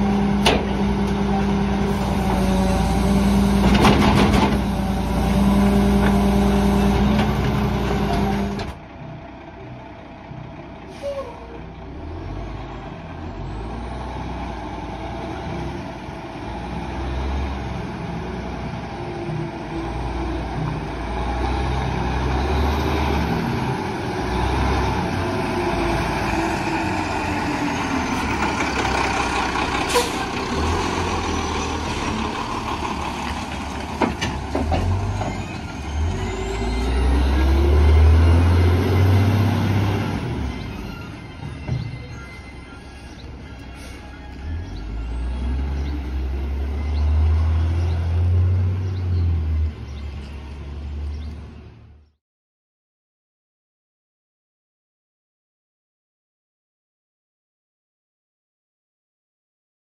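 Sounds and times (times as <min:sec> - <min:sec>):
garbage truck diesel engine revving: 0:00.0 - 0:11.0, 0:11.6 - 0:51.3.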